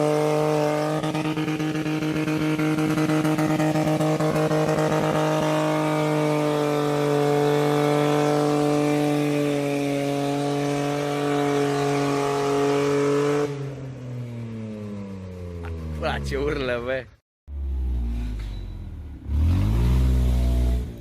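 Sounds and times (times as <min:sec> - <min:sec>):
car engine revving: 0:00.0 - 0:16.7, 0:17.5 - 0:21.0.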